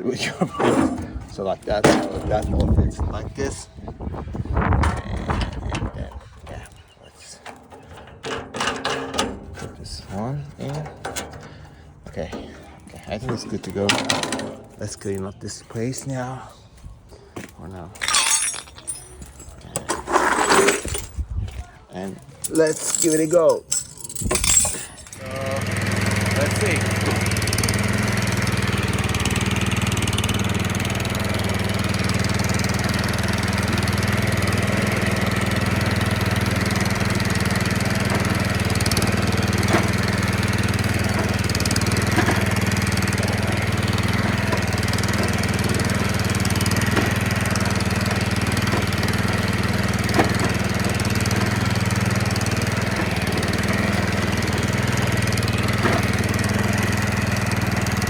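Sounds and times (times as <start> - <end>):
mower petrol engine running: 0.4 - 22.6, 23.4 - 58.0.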